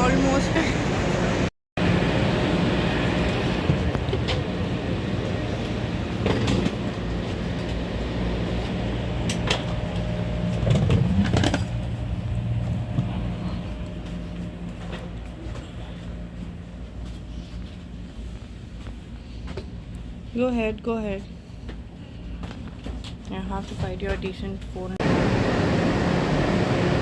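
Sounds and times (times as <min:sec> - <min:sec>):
train low hum: 0:00.0 - 0:27.0.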